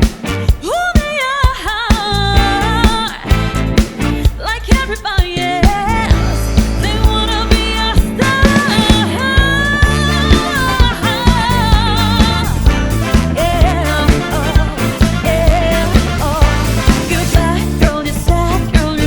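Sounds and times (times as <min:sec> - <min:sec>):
band playing funk-pop: 0:00.0 - 0:19.0.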